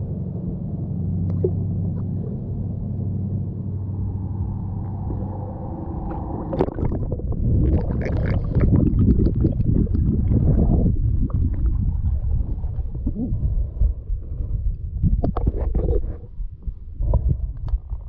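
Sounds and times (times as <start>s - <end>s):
low drone: 0.0s - 18.0s
underwater rushing and bubbling: 1.1s - 3.1s, 3.9s - 18.0s.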